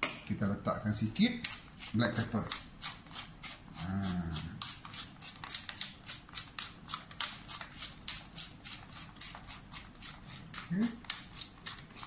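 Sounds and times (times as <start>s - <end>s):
pepper mill grinding: 1.4s - 12.0s.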